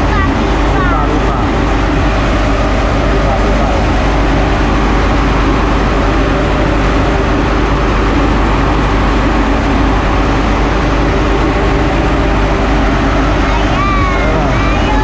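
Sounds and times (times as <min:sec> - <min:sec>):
railcar engine drone: 0:00.0 - 0:15.0
train rumble: 0:00.0 - 0:15.0.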